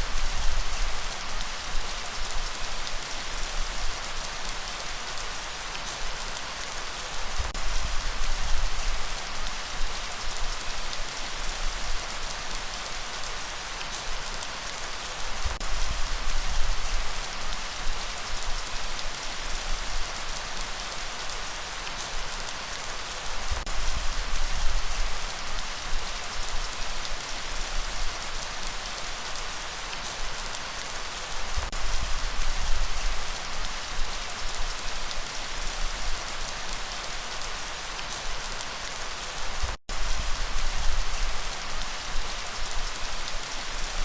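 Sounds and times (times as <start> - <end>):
rain pattering: 0.0 - 44.0.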